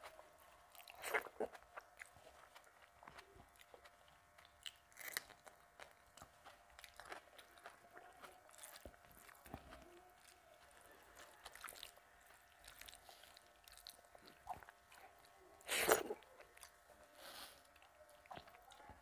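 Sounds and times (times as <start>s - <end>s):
chewing and mouth clicks: 0.0s - 19.0s.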